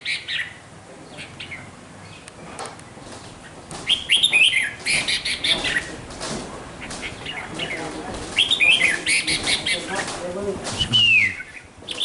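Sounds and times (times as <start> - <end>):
bird chirping: 0.0 - 6.1, 6.8 - 12.0.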